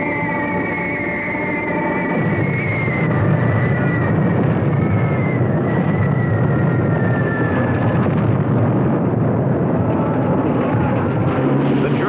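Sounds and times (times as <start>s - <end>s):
aircraft engines droning: 0.0s - 12.0s
heavy continuous rumble: 0.0s - 12.0s
high engine tones sliding down: 0.0s - 12.0s.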